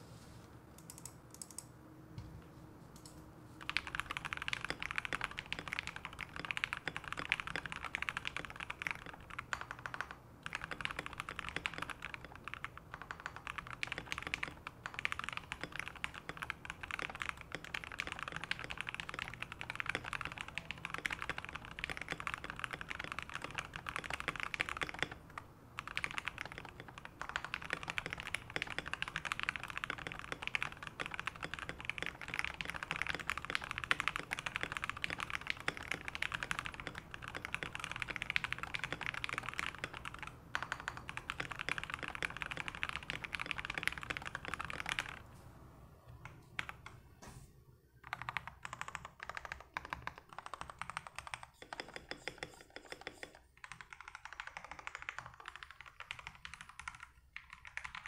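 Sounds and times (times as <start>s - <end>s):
fast typing on mechanical keyboard: 3.6s - 45.3s, 46.2s - 47.0s, 48.0s - 58.0s.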